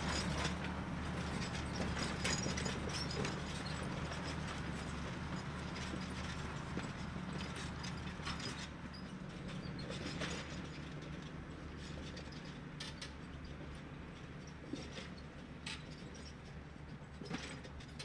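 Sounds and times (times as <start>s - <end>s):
plough clicking and rattling: 0.0s - 18.0s
tractor engine under load: 0.0s - 18.0s.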